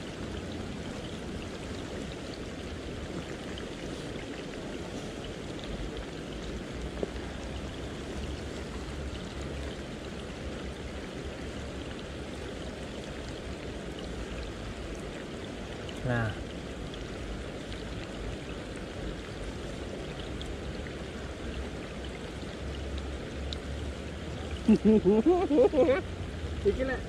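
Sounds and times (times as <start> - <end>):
river water rushing: 0.0 - 27.0.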